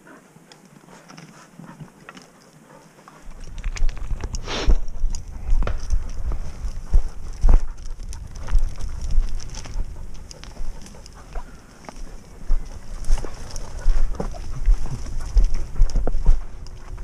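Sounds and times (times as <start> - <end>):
footsteps on stony ground: 0.6 - 17.0
brush scraping: 2.8 - 17.0.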